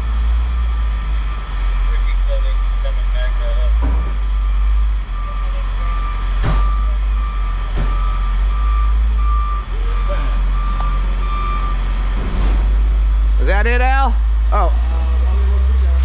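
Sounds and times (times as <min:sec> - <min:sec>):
backup alarm beeping: 0:00.0 - 0:14.2
low engine rumble: 0:00.0 - 0:16.0.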